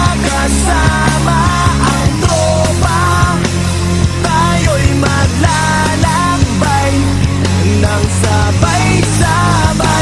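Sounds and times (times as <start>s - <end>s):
instrumental rock music: 0.0s - 10.0s.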